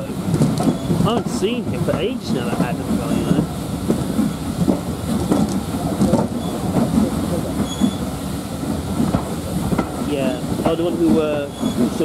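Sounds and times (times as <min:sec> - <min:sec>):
steam locomotive working: 0:00.0 - 0:12.0
train wheels rumbling: 0:00.0 - 0:12.0
regular wheel knock: 0:00.3 - 0:12.0.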